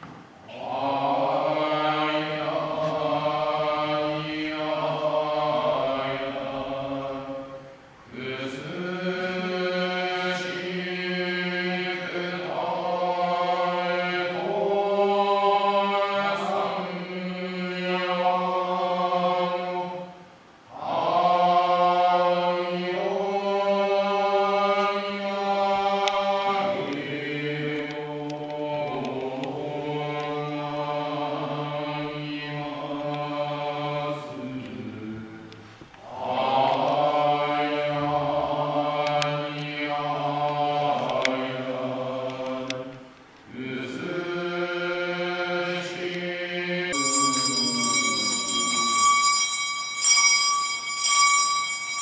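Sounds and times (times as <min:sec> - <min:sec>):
man chanting in monotone: 0:00.5 - 0:42.7, 0:43.5 - 0:49.1.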